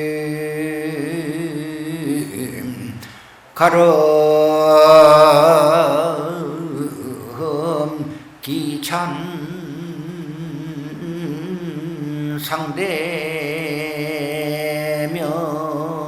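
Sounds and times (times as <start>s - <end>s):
man chanting slowly: 0.0s - 16.0s.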